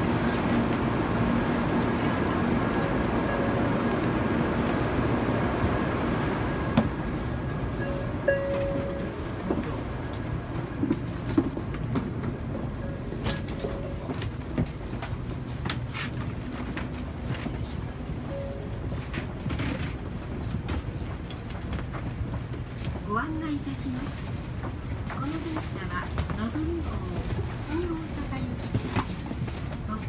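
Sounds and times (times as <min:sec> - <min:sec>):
footsteps in train aisle: 0:00.0 - 0:30.0
train hum: 0:00.0 - 0:30.0.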